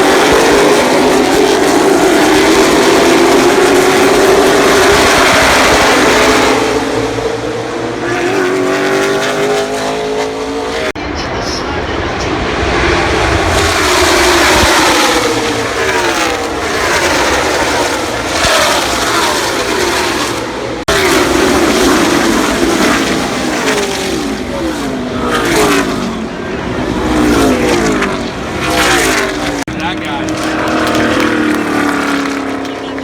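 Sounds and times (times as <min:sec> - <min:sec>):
race cars passing: 0:00.0 - 0:33.0.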